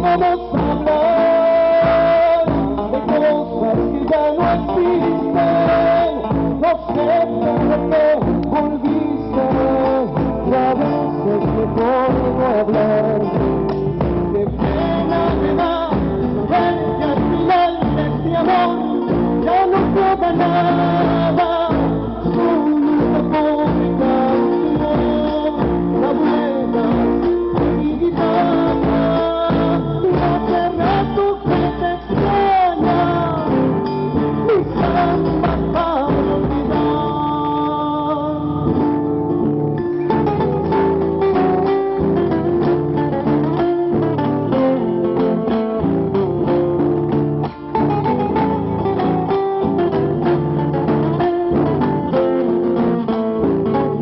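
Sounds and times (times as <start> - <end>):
person singing folk song: 0.0 - 54.0
strummed acoustic guitar: 0.0 - 54.0.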